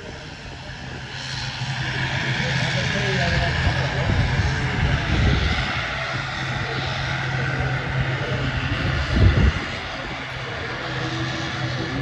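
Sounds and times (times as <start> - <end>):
airliner engines droning: 0.0 - 12.0.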